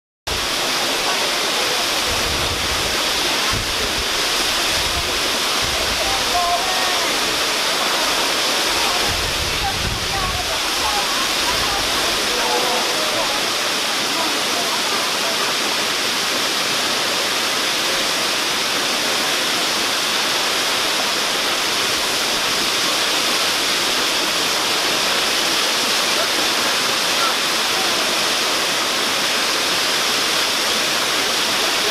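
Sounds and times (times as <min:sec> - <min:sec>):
waterfall rushing: 0:00.3 - 0:31.9.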